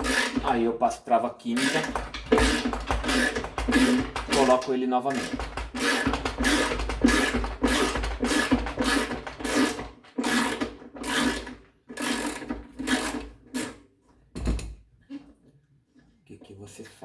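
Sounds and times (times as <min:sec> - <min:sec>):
hand tool rasping strokes: 0:00.0 - 0:13.8.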